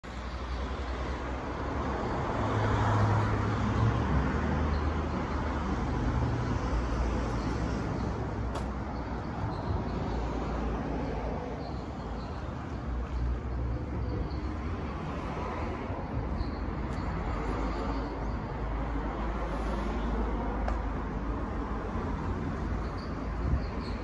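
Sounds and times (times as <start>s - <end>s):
road traffic rumbling: 0.0s - 24.0s.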